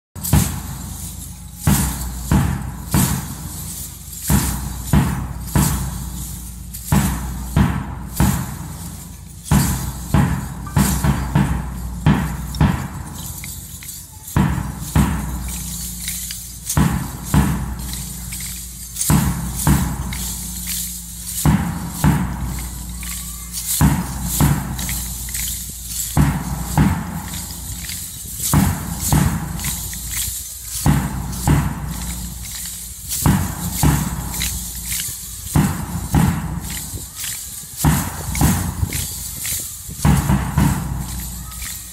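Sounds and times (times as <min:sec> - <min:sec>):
metal jingles shaken and clashed: 0:00.0 - 0:41.9
large drum strokes: 0:00.2 - 0:41.9.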